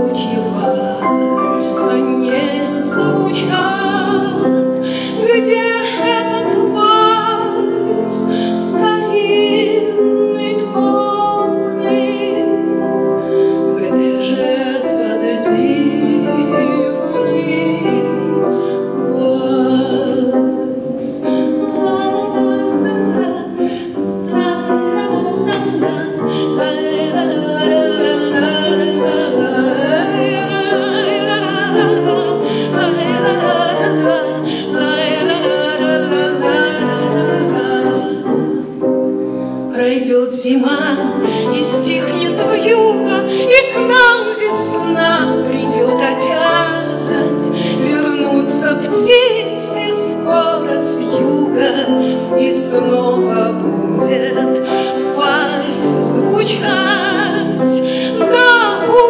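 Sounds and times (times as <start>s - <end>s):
grand piano: 0.0s - 59.0s
woman singing: 0.0s - 59.0s.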